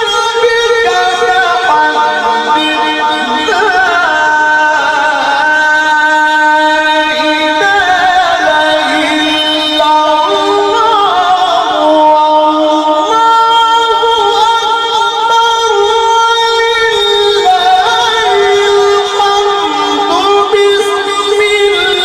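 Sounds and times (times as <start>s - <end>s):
person chanting recitation: 0.0s - 22.0s.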